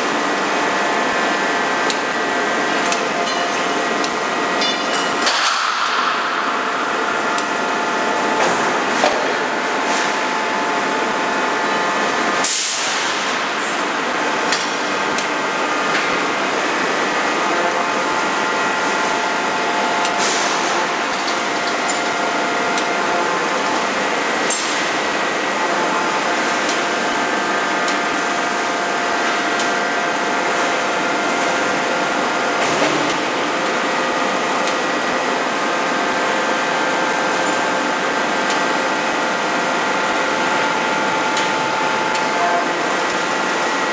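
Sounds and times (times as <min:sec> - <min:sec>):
machinery hum and hiss: 0:00.0 - 0:43.9.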